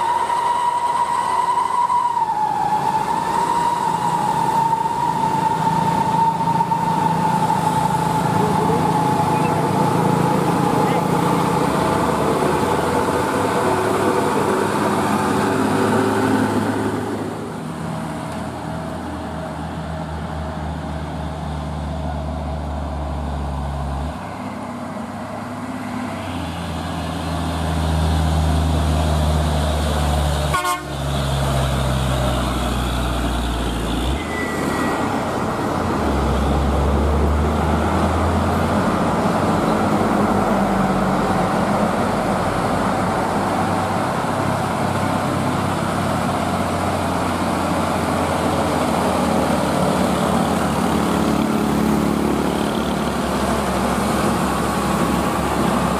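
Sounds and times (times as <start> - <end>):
diesel truck engines labouring: 0.0 - 55.9.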